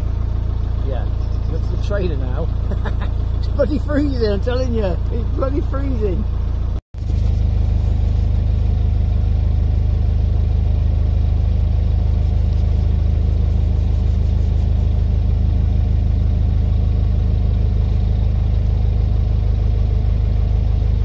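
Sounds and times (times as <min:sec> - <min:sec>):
boat diesel engine throbbing: 0:00.0 - 0:21.0.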